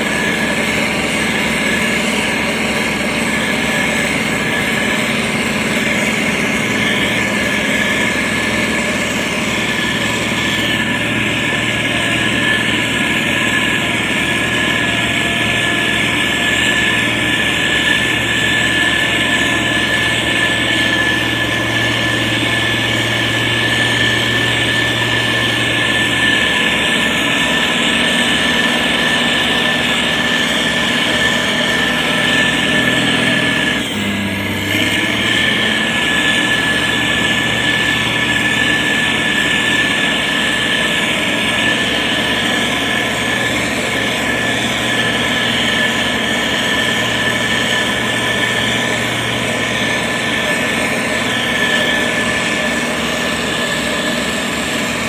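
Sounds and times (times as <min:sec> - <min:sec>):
heavy diesel engine running: 0:00.0 - 0:55.0
high-pitched whine: 0:00.0 - 0:55.0.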